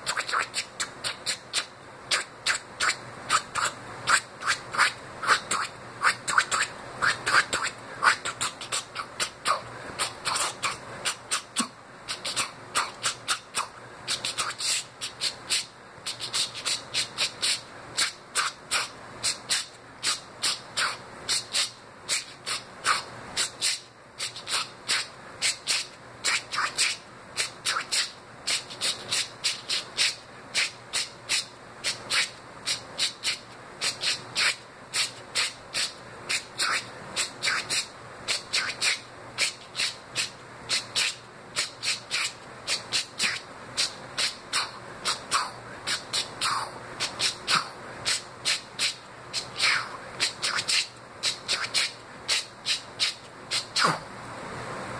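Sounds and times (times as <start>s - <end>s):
mouth imitating turntable scratching: 0.0s - 54.1s.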